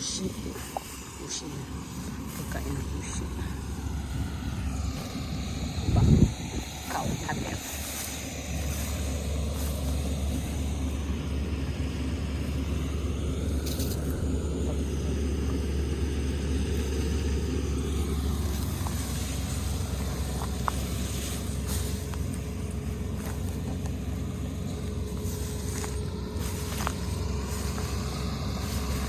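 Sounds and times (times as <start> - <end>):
combine harvester engine droning: 0.0 - 29.0.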